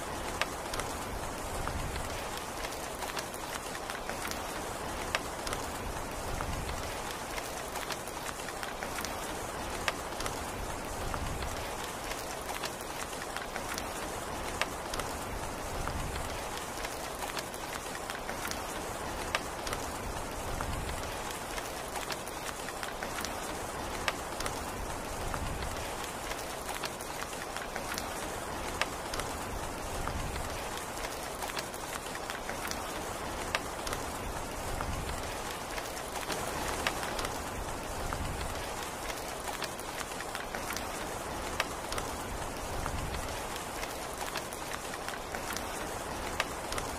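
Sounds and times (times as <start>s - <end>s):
steady rain patter: 0.0s - 46.9s.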